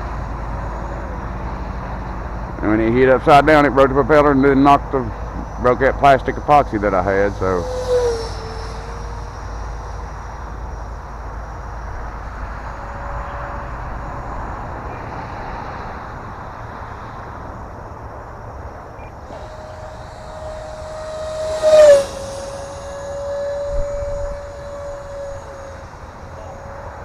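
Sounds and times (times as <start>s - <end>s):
electric ducted-fan jet whine: 0.0s - 27.0s.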